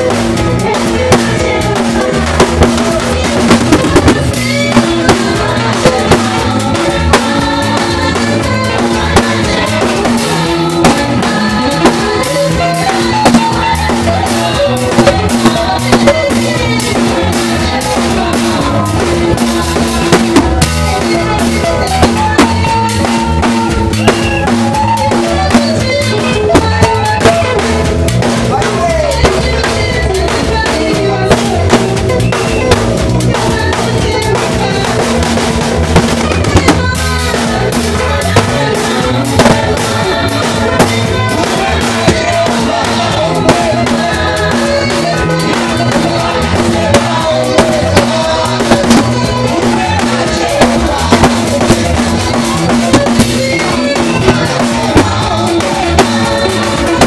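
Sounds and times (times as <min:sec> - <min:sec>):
drum kit beat: 0:00.0 - 0:57.0
loud worship music: 0:00.0 - 0:57.0.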